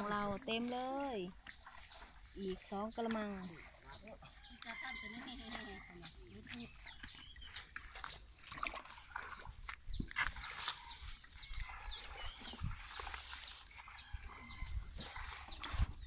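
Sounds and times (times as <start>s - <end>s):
bird chirping: 1.4s - 8.3s, 9.1s - 16.0s.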